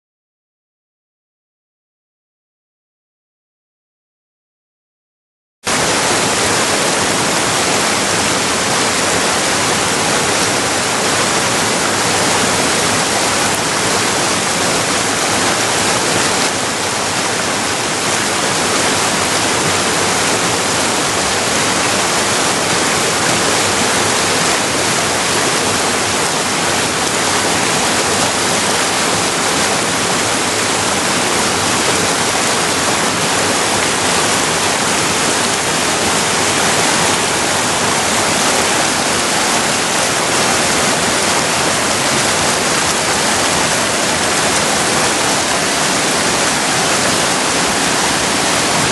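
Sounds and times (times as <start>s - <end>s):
river rapids rushing over rocks: 5.7s - 48.9s.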